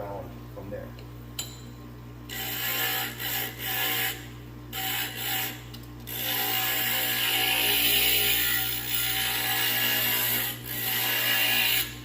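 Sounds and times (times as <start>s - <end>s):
glass grinder motor hum: 2.3s - 12.0s
rasping glass grinding: 2.3s - 12.0s.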